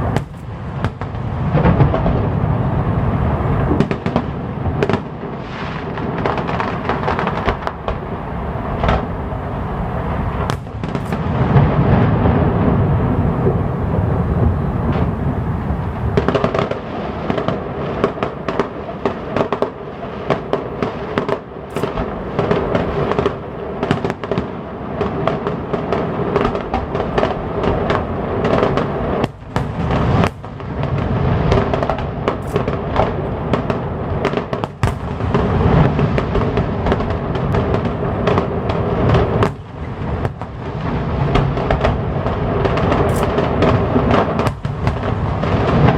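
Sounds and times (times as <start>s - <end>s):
fireworks booming: 0.0s - 45.9s
fireworks crackling and popping: 0.0s - 45.9s.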